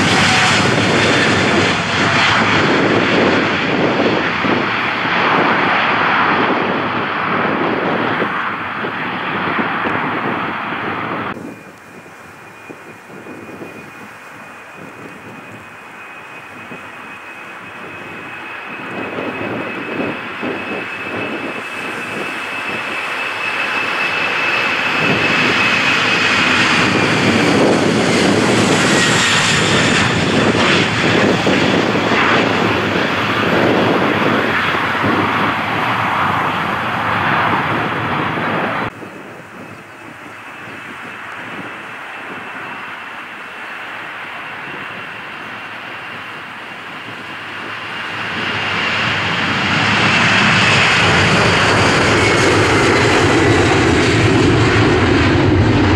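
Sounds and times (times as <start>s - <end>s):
high engine whine: 0.0s - 55.9s
jet airliner taking off: 0.0s - 55.9s.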